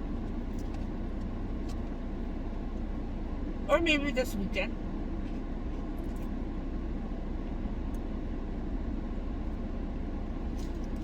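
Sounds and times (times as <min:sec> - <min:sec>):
car air conditioning rumble and hiss: 0:00.0 - 0:11.0.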